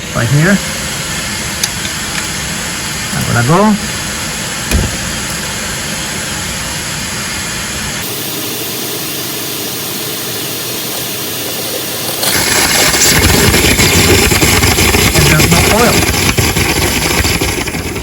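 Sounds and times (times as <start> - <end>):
shop vacuum motor running: 0.0 - 18.0.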